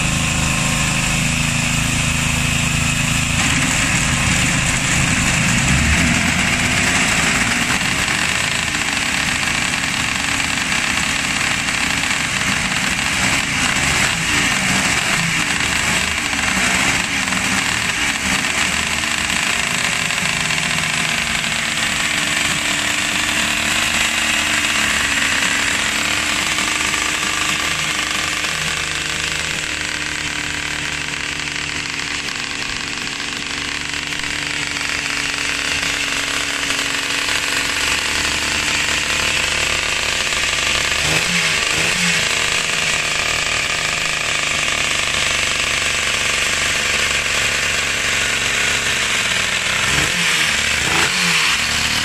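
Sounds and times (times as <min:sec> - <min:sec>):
two-stroke racing engine running: 0:00.0 - 0:52.0.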